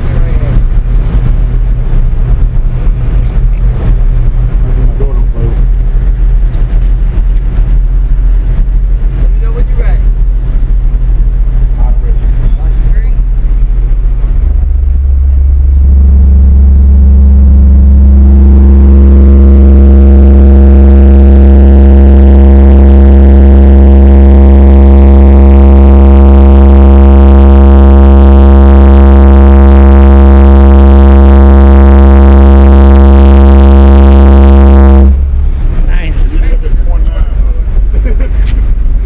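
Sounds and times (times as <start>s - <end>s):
deep subwoofer bass tone: 0.0s - 39.0s.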